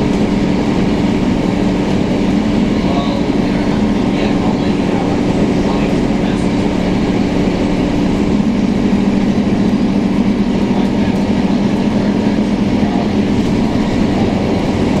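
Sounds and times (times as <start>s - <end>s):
bus diesel engine drone: 0.0s - 15.0s
road and cabin noise: 0.0s - 15.0s.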